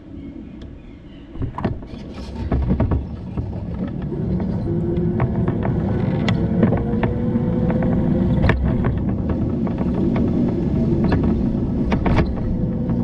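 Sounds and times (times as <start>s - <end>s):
wind noise: 0.0s - 13.0s
bicycle tyre rumble on road: 1.4s - 13.0s
sharp clicks and rattles: 1.4s - 13.0s.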